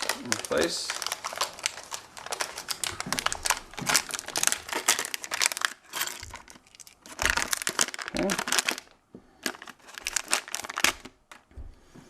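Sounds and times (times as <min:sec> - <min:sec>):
plastic crinkling and clicking: 0:00.0 - 0:11.5.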